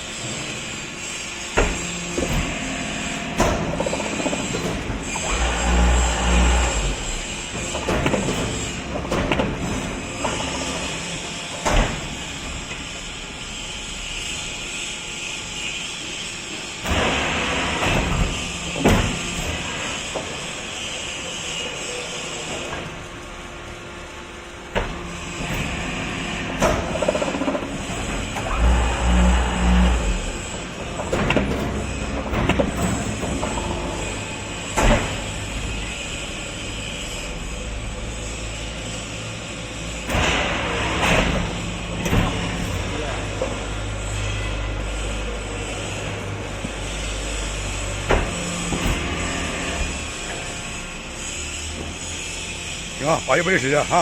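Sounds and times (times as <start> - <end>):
concrete block machine droning: 0.0 - 54.0
hydraulic unit humming: 0.0 - 54.0.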